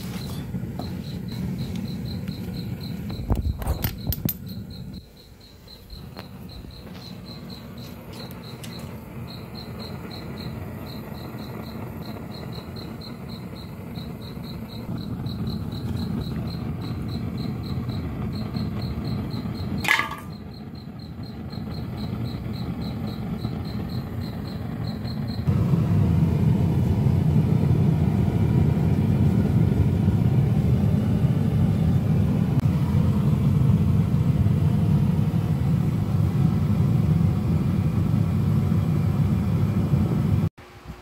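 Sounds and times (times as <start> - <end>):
gas burner flame rushing: 0.0 - 5.0, 5.8 - 41.0.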